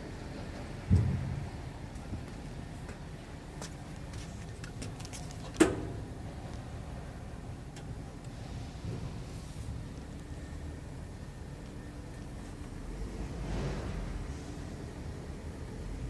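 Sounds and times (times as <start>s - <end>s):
truck cab rumble: 0.0s - 16.0s.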